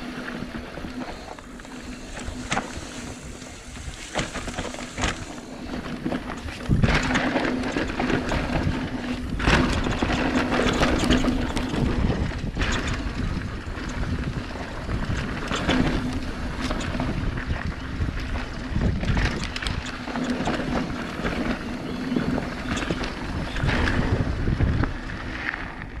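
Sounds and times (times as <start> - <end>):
bike rattling over bumps: 0.0 - 26.0
bike tyre noise on dirt: 0.0 - 26.0
wind rushing over microphone: 0.0 - 26.0.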